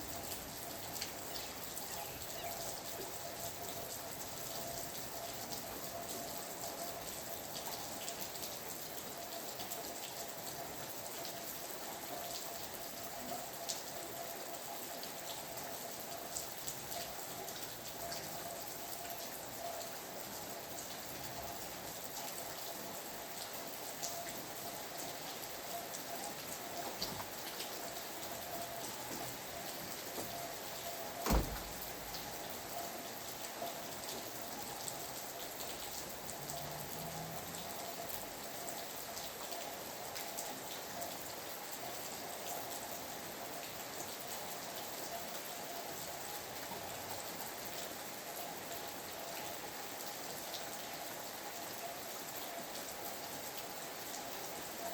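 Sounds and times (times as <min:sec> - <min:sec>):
rain drops ticking: 0:00.0 - 0:54.9.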